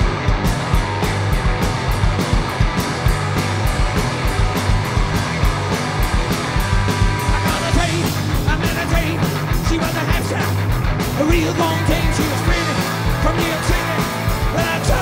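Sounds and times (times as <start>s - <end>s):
electric guitars and bass: 0.0s - 15.0s
fast drum beat: 0.0s - 15.0s.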